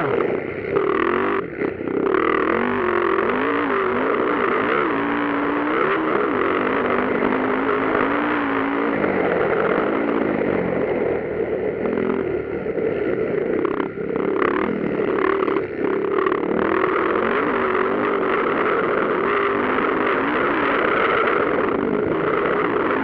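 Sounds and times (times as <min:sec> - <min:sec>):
dirt bike engine revving: 0:00.0 - 0:23.0
other dirt bikes: 0:00.0 - 0:23.0.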